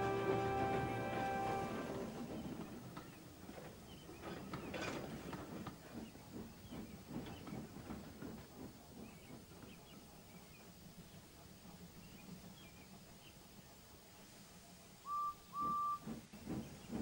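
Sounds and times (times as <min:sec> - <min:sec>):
model train clicks and rattles: 0:00.0 - 0:14.2, 0:15.6 - 0:17.0.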